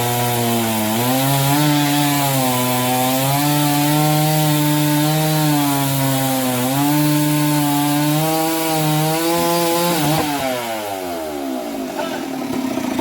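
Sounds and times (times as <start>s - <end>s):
chainsaw cutting a log: 0.0s - 13.0s.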